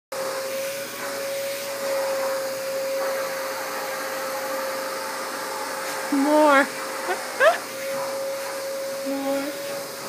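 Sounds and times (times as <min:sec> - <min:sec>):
vacuum cleaner running: 0:00.1 - 0:10.0.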